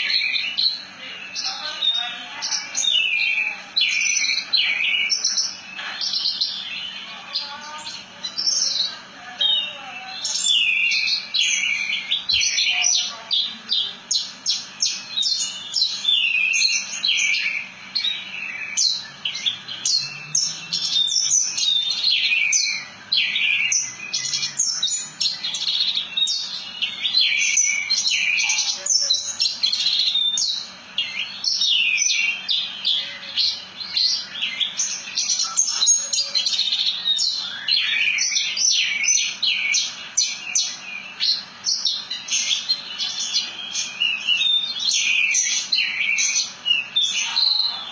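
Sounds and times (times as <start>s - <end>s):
bird singing rapid chirps: 0.0s - 47.9s.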